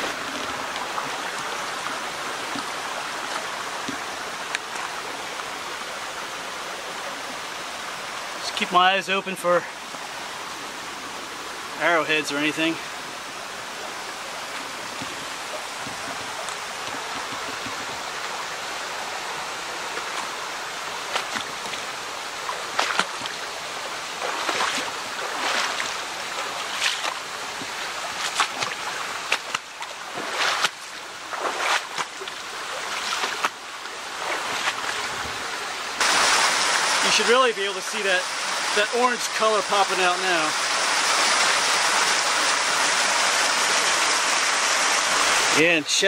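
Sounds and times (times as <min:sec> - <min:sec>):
stream water over rocks: 0:00.0 - 0:46.0.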